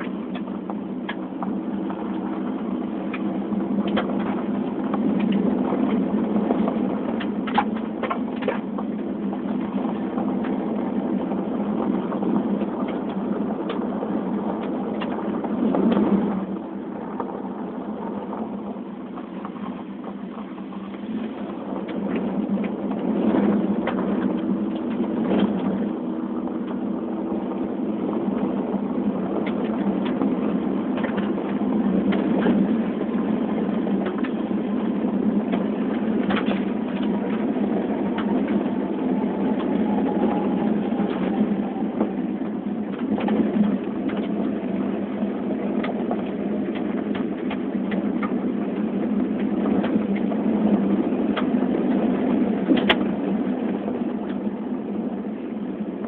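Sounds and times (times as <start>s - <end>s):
car engine and tyre drone: 0.0s - 56.0s.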